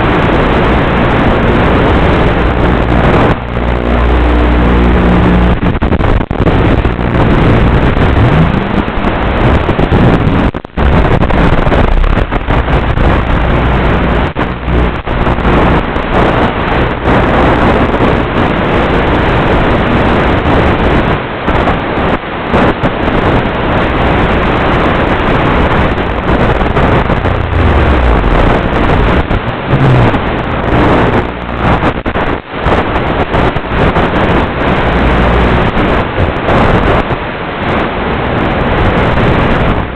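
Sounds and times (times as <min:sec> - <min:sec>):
wind rushing: 0:00.0 - 0:39.9.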